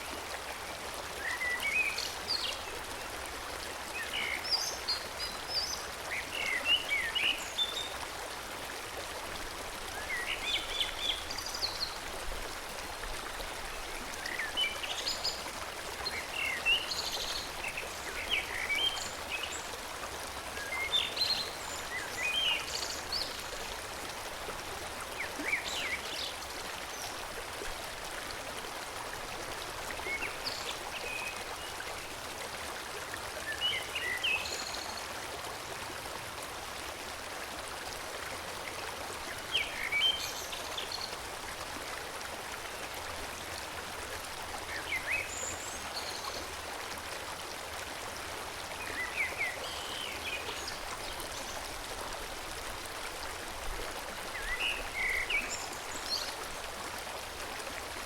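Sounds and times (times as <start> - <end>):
forest stream flowing: 0.0 - 58.0.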